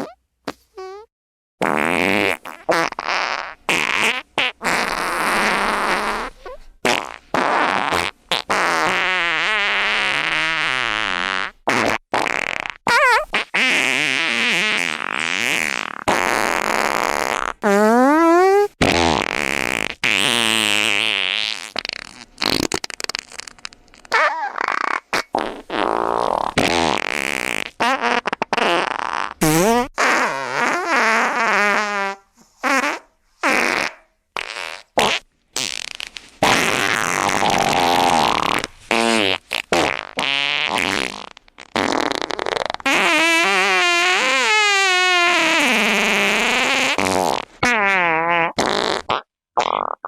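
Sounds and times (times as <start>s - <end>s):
fart sound effects: 0.0s - 50.0s.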